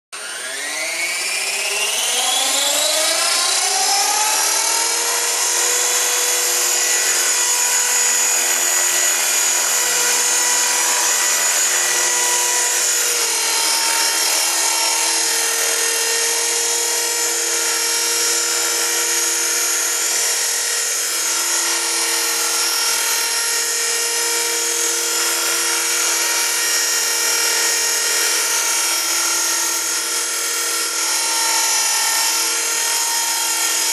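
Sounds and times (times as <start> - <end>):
rc helicopter whine: 0.2 - 33.9.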